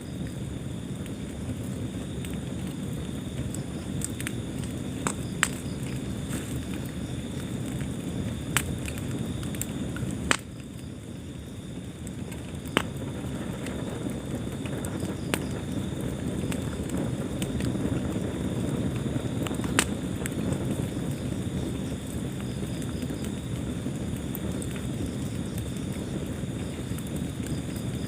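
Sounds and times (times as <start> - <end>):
fire crackles and pops: 0.0 - 28.0
fire flames rustling: 0.0 - 28.0.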